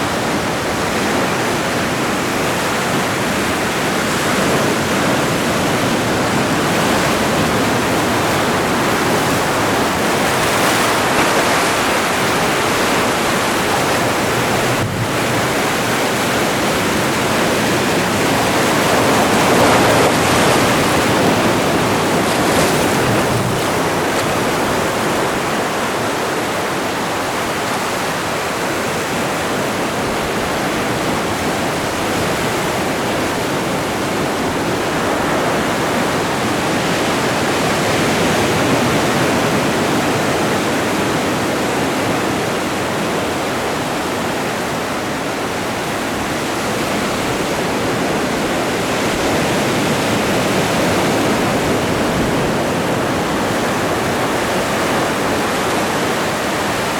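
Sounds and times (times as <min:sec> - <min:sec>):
breaking waves washing: 0:00.0 - 0:56.9.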